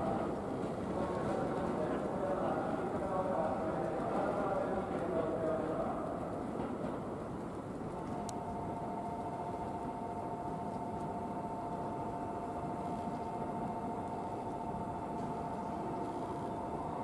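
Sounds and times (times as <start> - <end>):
train rumbling slowly: 0.0 - 17.0.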